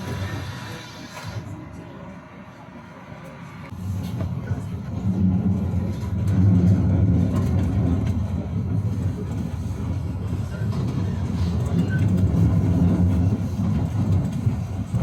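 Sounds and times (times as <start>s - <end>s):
tram motors and wheels rumbling: 0.0s - 15.0s.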